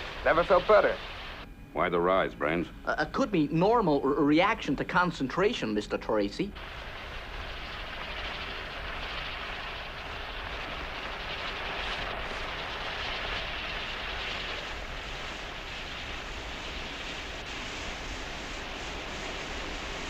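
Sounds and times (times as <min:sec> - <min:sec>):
cutting torch flame hissing: 0:00.0 - 0:01.4, 0:04.5 - 0:20.0.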